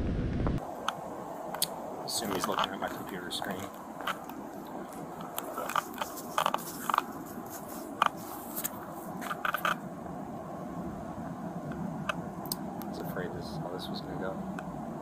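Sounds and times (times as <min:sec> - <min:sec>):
faint background hiss: 0:00.6 - 0:15.0.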